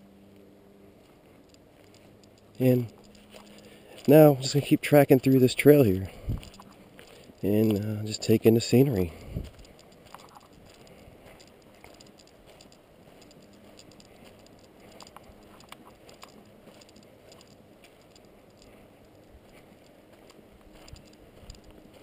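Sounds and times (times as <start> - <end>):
footsteps on forest trail: 0.0 - 22.0
small clicks and crackles: 0.0 - 22.0.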